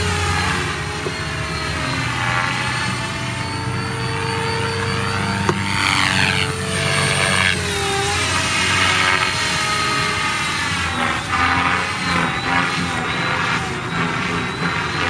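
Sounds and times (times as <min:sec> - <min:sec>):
rc helicopter whine: 0:00.0 - 0:15.0.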